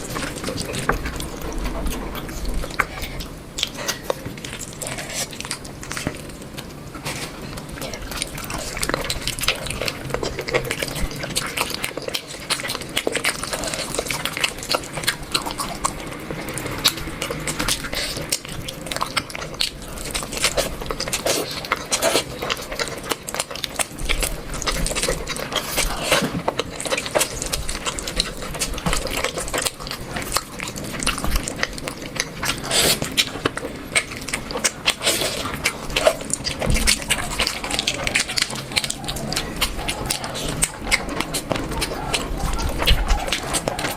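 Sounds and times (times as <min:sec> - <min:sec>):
wet chewing and mouth clicks: 0:00.0 - 0:43.9.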